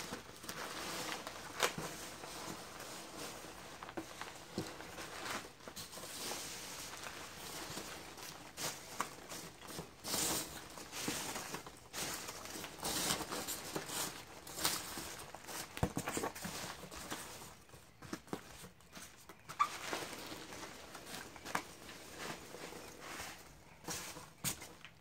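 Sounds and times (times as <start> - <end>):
bubble wrap crinkling: 0.0 - 25.0
packing peanuts rustling: 0.0 - 25.0.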